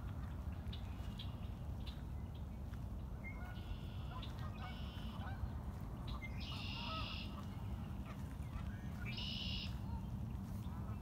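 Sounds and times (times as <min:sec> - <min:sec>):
faint low bird calls: 0:00.5 - 0:11.0.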